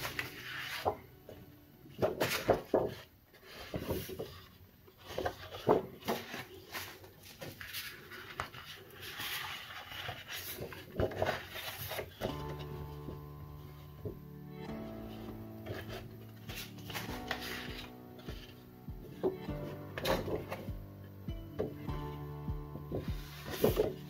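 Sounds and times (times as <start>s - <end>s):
paper rustling and flapping: 0.0s - 13.2s, 15.0s - 20.8s, 22.9s - 24.0s.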